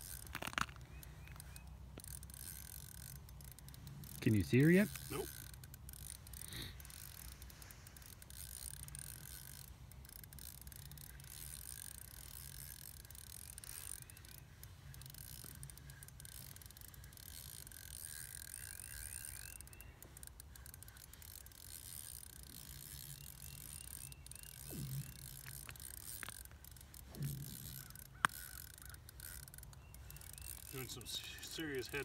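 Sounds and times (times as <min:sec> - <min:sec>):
fishing reel clicking: 0:00.0 - 0:32.0.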